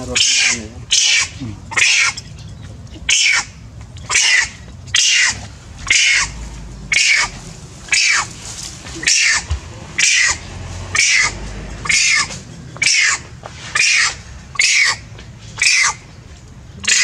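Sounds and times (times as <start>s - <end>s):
monkey screaming: 0.0s - 2.3s, 3.0s - 8.4s, 9.0s - 16.0s.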